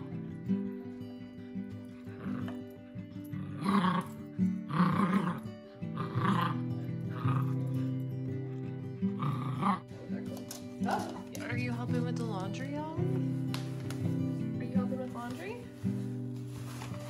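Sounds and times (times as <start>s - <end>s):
background music with held chords: 0.0s - 17.0s.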